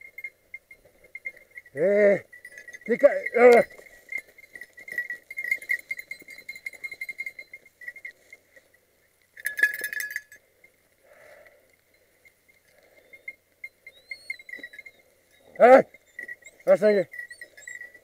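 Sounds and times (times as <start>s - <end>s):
faint rustling: 0.0s - 18.0s
small collar bell jingling: 0.0s - 18.0s.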